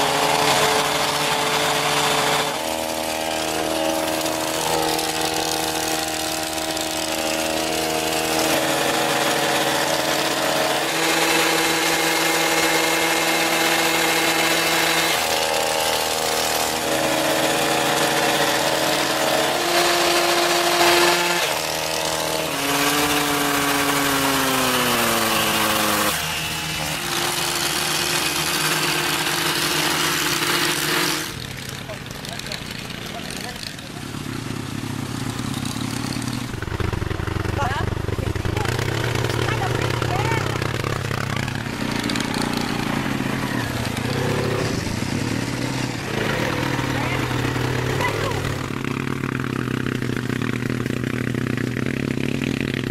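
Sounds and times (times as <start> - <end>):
car engine and exhaust running: 0.0 - 52.9.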